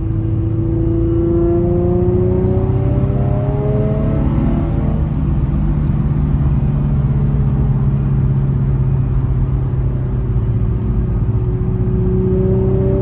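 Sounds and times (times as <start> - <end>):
car engine cruising: 0.0 - 13.0.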